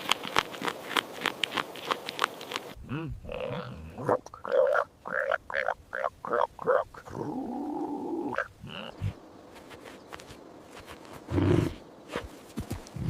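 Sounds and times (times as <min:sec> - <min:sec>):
farm animal calls: 0:00.0 - 0:10.2, 0:10.8 - 0:12.4.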